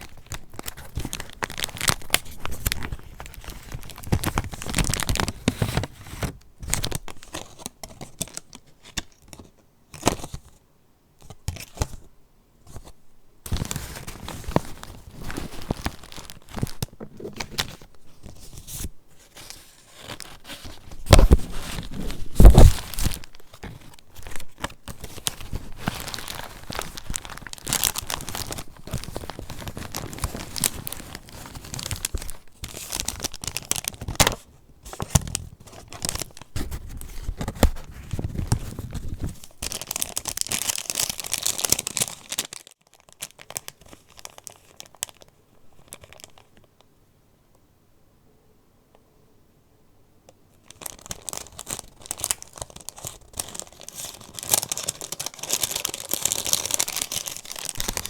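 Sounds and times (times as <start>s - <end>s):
paper pages rustling: 0.0s - 10.4s, 12.7s - 42.7s, 50.7s - 58.0s.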